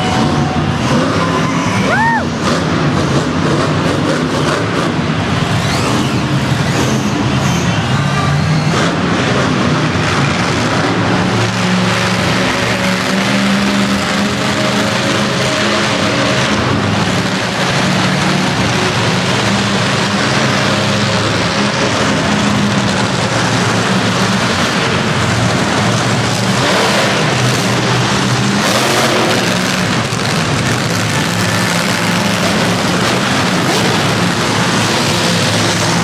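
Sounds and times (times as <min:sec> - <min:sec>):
loud truck engines running: 0:00.0 - 0:36.0.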